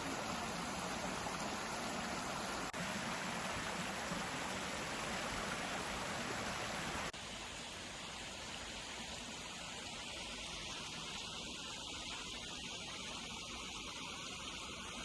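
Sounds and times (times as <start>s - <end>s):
rushing river or waterfall: 0.0s - 15.0s.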